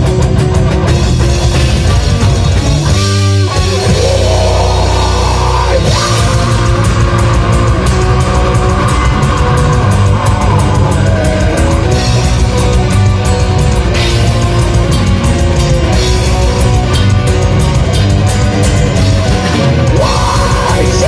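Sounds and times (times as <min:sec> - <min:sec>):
bass guitar: 0:00.0 - 0:21.0
distorted electric guitars: 0:00.0 - 0:21.0
drums and cymbal hits: 0:00.0 - 0:21.0.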